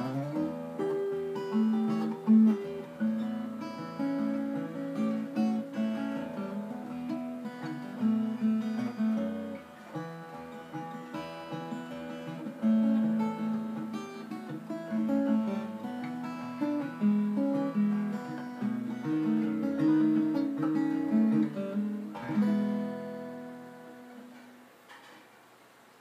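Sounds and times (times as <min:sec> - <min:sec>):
fingerstyle acoustic guitar: 0:00.0 - 0:25.5.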